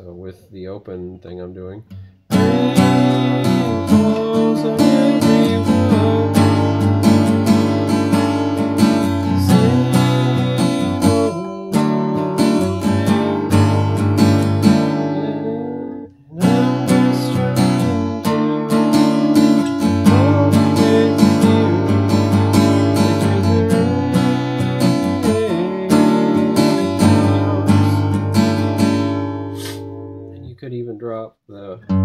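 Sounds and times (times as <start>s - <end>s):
acoustic guitar strumming: 1.9s - 30.4s, 31.8s - 32.0s.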